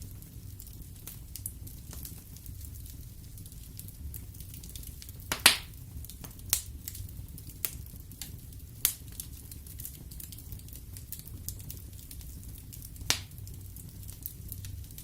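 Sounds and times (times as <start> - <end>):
wood fire crackling in fireplace: 0.0 - 15.0.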